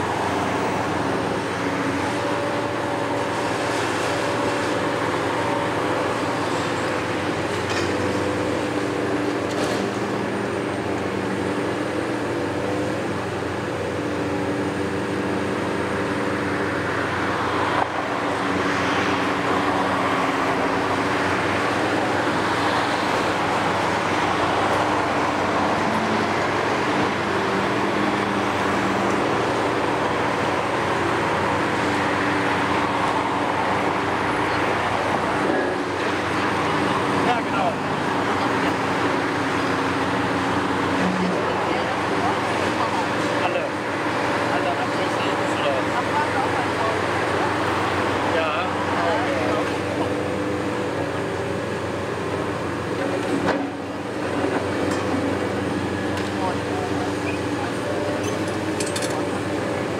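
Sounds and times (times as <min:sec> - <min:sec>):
excavator diesel engines: 0:00.0 - 0:59.9.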